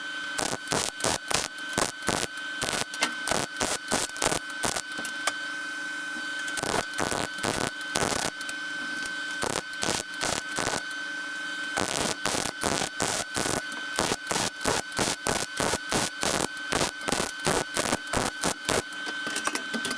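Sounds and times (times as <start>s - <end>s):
steady high whine: 0.0s - 19.8s
welding arc crackling: 0.3s - 5.3s, 6.4s - 11.0s, 11.7s - 18.9s.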